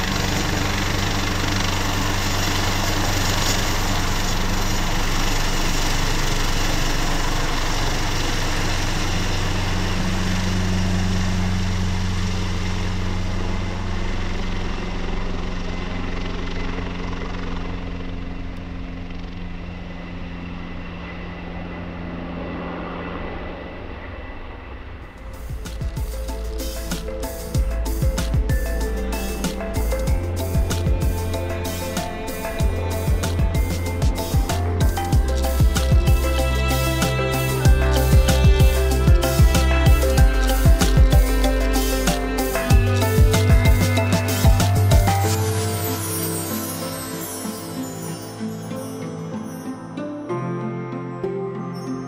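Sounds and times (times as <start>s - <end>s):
helicopter engine noise: 0.0s - 47.8s
helicopter rotor drone: 0.0s - 48.6s.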